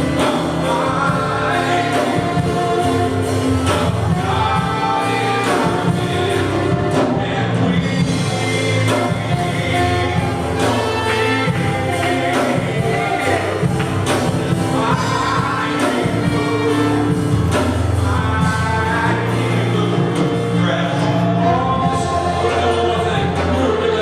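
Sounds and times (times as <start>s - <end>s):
band with steady beat: 0.0s - 24.0s
group of voices singing: 0.0s - 24.0s.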